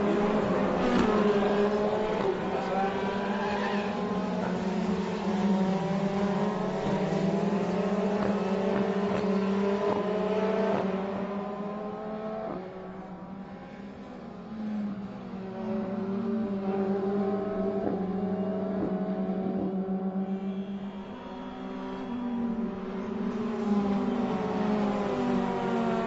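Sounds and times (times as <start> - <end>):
race car engines at high revs: 0.0 - 26.0.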